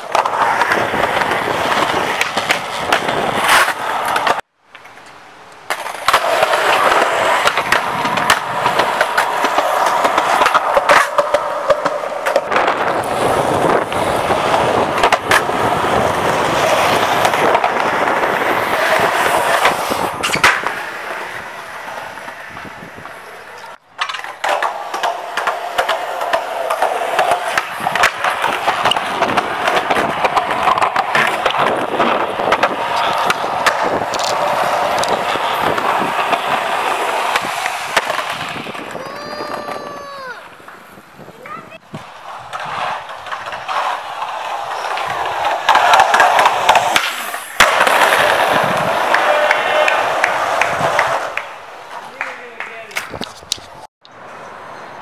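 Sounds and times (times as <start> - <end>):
skateboard clacks: 0.0 - 54.4
skateboard wheels rolling on concrete: 0.0 - 55.0.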